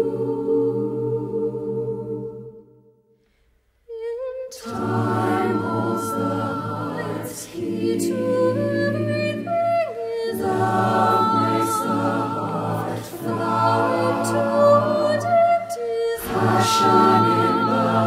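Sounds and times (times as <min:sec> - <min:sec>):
choir singing chords: 0:00.0 - 0:03.1, 0:04.5 - 0:18.0.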